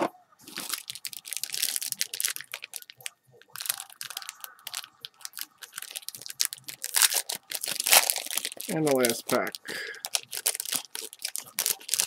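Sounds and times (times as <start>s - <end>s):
foil wrapper crinkling: 0.4s - 12.0s.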